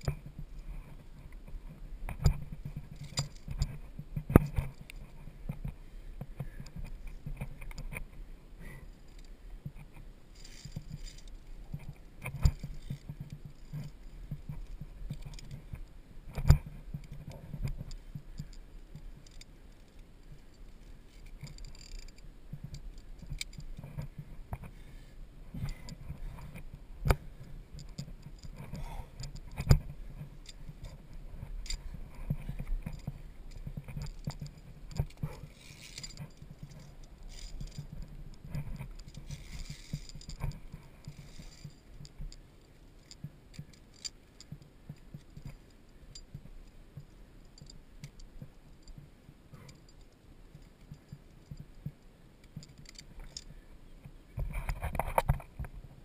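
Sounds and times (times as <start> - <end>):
carabiners clinking on cable: 2.2 - 5.7, 6.6 - 24.2, 27.7 - 53.6.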